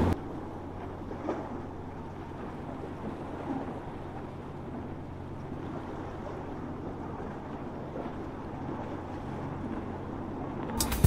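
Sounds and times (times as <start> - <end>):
boat engines droning: 0.0 - 10.9
water noise: 0.0 - 11.0
wind: 0.0 - 11.0.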